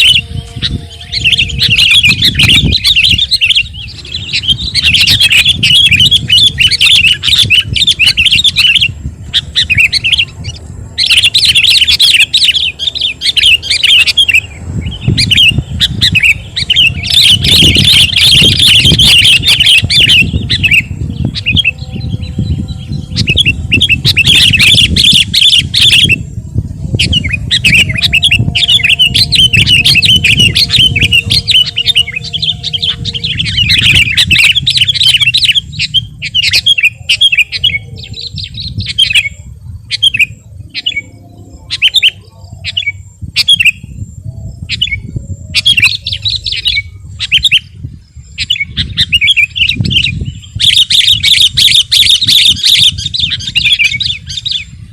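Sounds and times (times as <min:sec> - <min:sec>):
low rumble: 0:00.0 - 0:50.6
bulbul singing chattering notes: 0:00.0 - 0:54.9.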